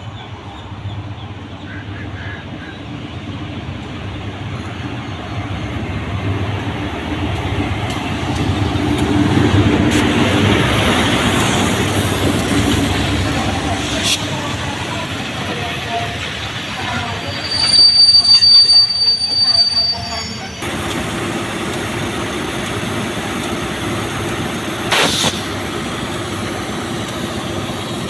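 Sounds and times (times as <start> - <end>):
diesel locomotive engine humming: 0.0 - 28.0.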